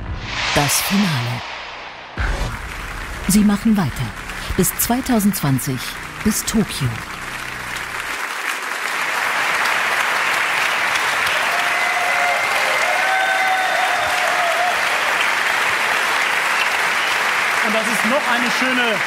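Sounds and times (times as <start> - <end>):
audience applauding: 2.5 - 19.0.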